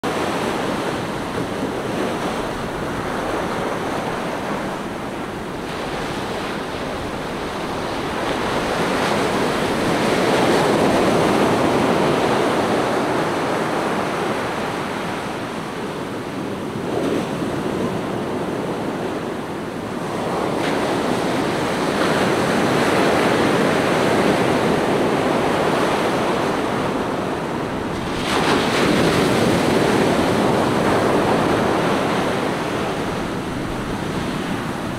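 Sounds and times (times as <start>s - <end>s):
waves washing up a beach: 0.0s - 34.9s.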